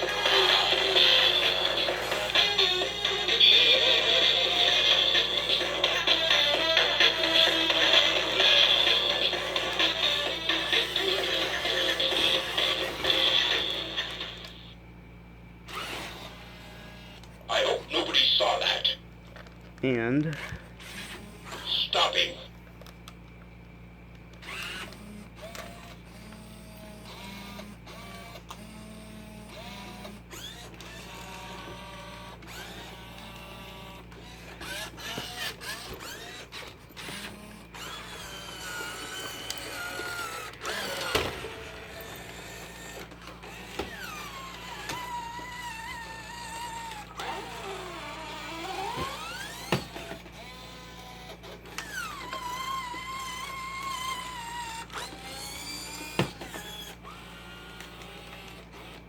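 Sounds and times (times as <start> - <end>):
toy robot motors whining: 0.0 - 14.8, 15.7 - 23.2, 24.3 - 59.0.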